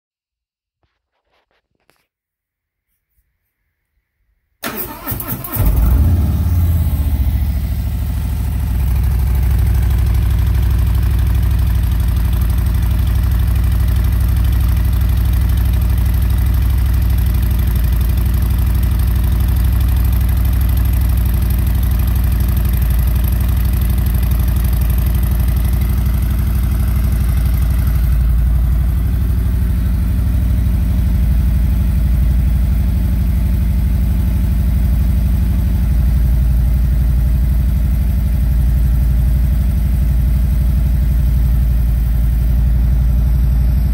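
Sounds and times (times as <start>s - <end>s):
motorcycle engine idling: 4.9s - 43.9s.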